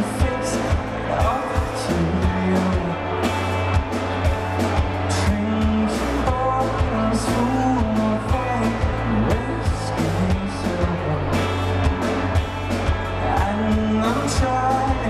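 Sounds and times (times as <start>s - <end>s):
man singing: 0.0s - 3.5s, 5.0s - 12.0s, 13.2s - 15.0s
live rock band playing: 0.0s - 15.0s.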